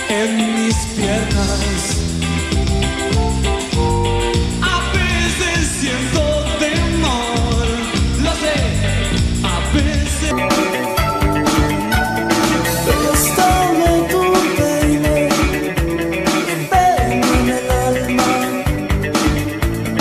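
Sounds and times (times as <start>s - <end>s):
rock song with singing: 0.0s - 20.0s.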